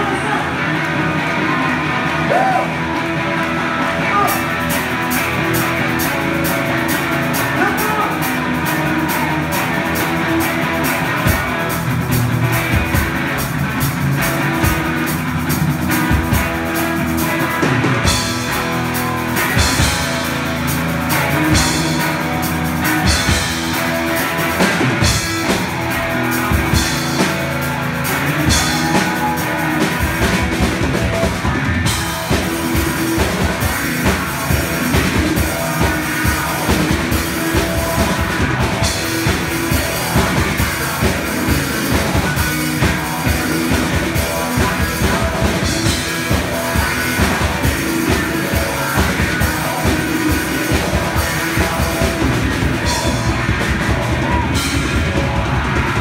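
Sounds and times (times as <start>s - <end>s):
drum kit playing: 0.0s - 56.0s
electric guitar through amplifier: 0.0s - 56.0s.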